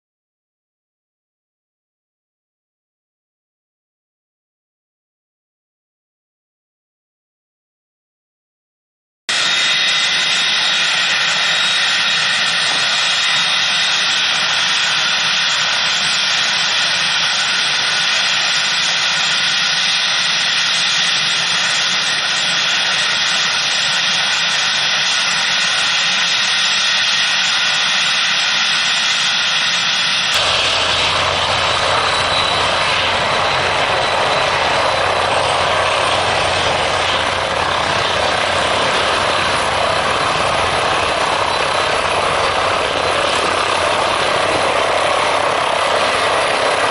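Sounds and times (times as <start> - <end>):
deep helicopter rotor sound: 9.3 - 46.9
helicopter turbine whine: 9.3 - 46.9.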